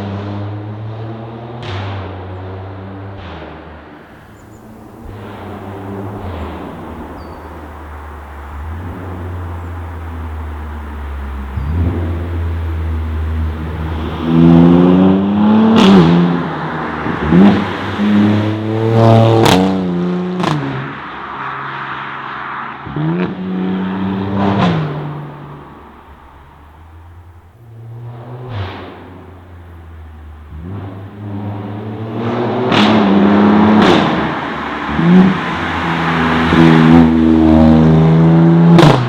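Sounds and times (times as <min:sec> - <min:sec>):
exhaust cracks: 0:03.2 - 0:19.8, 0:22.8 - 0:39.0
car exhaust revving: 0:04.0 - 0:21.4, 0:22.2 - 0:39.0.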